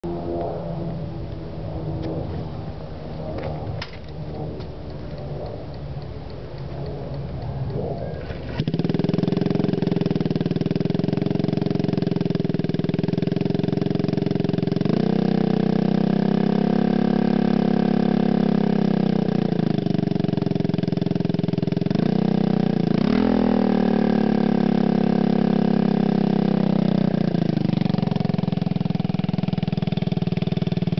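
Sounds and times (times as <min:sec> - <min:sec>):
scooter engine idling and revving: 0:00.0 - 0:30.9.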